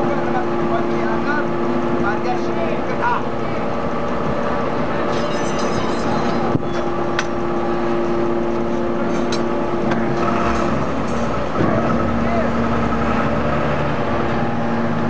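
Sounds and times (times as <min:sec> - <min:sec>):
hydraulic baler mechanical hum: 0:00.0 - 0:15.0.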